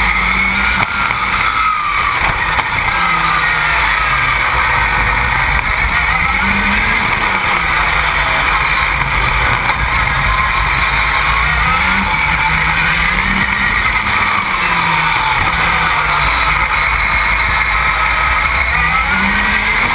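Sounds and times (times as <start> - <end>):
rally car engine revving: 0.0 - 19.9
road noise: 0.0 - 19.9.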